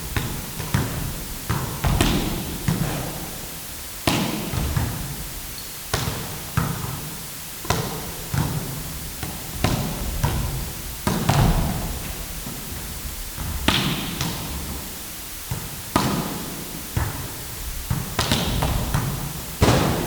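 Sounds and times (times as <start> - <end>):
balls bouncing on court floor: 0.1 - 3.3, 4.0 - 5.2, 5.9 - 20.0.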